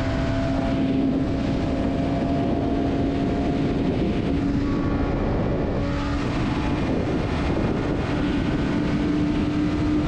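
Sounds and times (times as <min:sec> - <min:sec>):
motorcycle engine at speed: 0:00.0 - 0:10.0
wind noise: 0:00.0 - 0:10.0.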